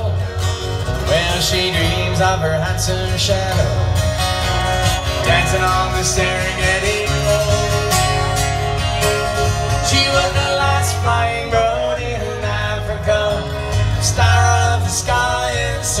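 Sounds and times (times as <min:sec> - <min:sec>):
acoustic guitar: 0:00.0 - 0:16.0
bass line: 0:00.0 - 0:16.0
electric guitar: 0:00.0 - 0:16.0.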